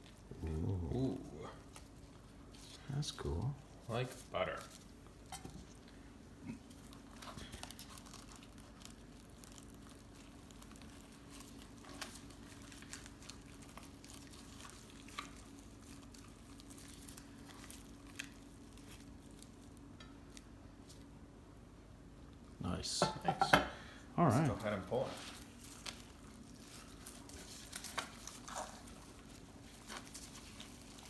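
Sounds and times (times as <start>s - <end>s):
meat tearing and squishing: 0.0s - 21.1s, 24.7s - 31.0s
faint low hum: 0.0s - 31.0s.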